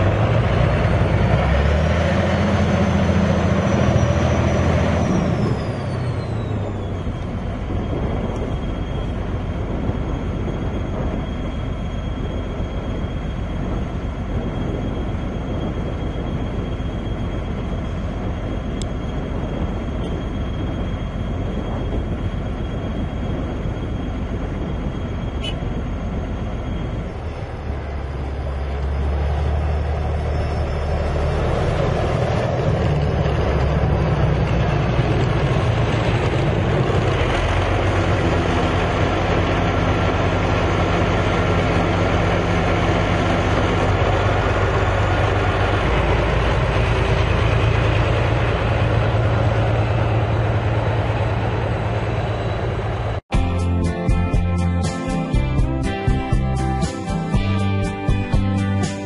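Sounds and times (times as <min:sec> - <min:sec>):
heavy machinery running: 0:00.0 - 0:59.0.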